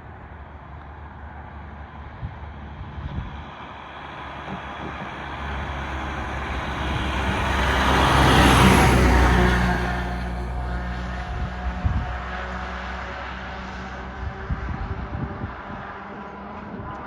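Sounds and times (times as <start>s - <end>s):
fire truck driving past: 0.1s - 16.5s.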